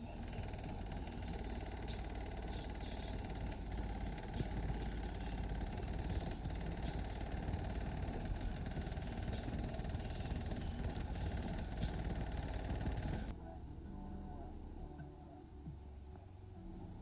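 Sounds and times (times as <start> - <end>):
bass-heavy music from subwoofers: 0.0 - 17.0.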